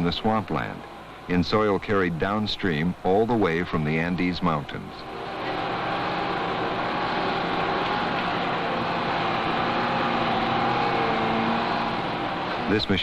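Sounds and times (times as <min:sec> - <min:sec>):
dredger engine drone: 0:00.0 - 0:13.0
high machinery whine: 0:00.0 - 0:13.0.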